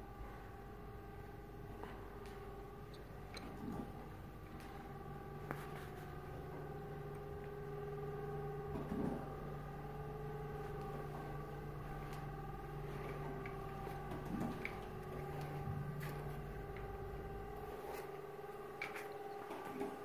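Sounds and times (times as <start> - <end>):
appliance humming: 0.0 - 20.0.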